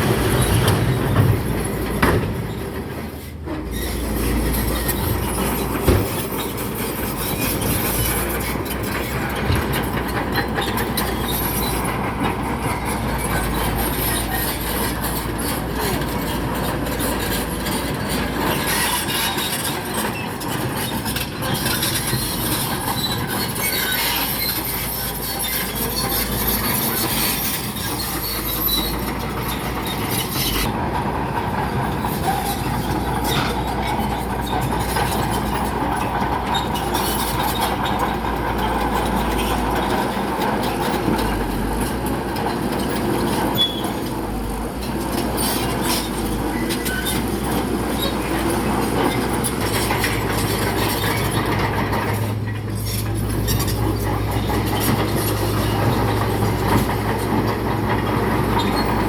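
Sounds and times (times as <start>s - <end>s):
bulldozer diesel engine under load: 0.0s - 59.0s
steel tracks clanking and squealing: 0.0s - 59.0s.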